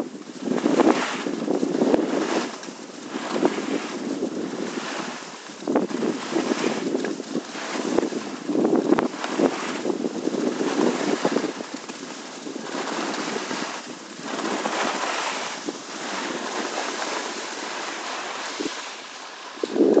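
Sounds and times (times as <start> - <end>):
skis scraping over snow: 0.0 - 20.0
wind rushing over microphone: 0.0 - 20.0.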